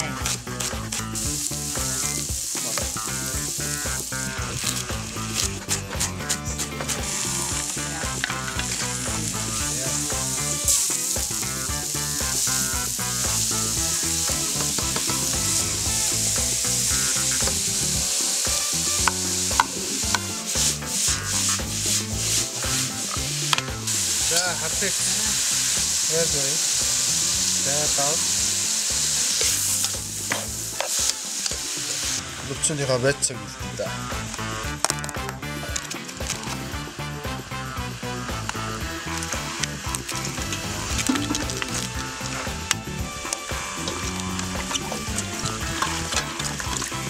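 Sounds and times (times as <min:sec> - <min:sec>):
vegetables sizzling in a pan: 0:00.0 - 0:47.0.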